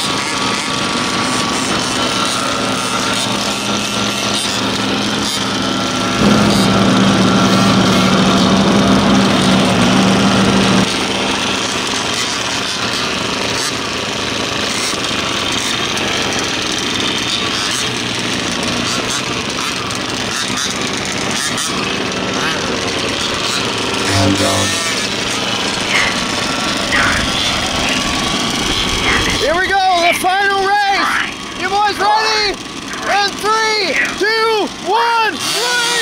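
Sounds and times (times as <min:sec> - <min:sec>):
rc car engines buzzy whine: 0:00.0 - 0:36.0.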